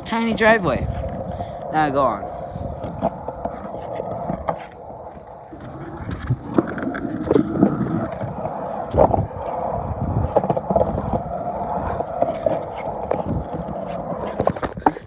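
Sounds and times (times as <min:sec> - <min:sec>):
skateboard wheels rolling: 0:00.0 - 0:15.0.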